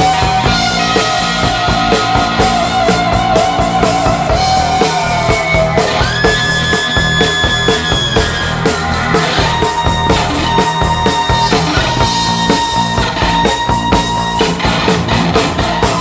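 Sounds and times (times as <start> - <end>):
drum kit beat: 0.0 - 16.0
held lead guitar note: 0.0 - 16.0
rock music: 0.0 - 16.0.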